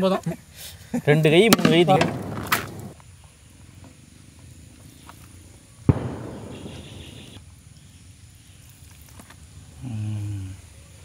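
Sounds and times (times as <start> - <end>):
faint low background noise: 0.0 - 11.0.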